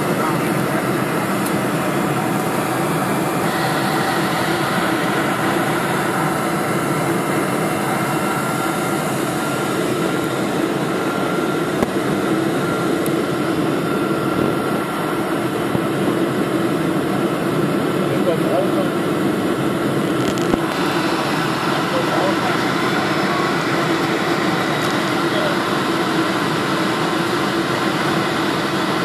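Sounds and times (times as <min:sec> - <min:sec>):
faint steady whine: 0:00.0 - 0:29.0
jet engine roar in cabin: 0:00.0 - 0:29.0.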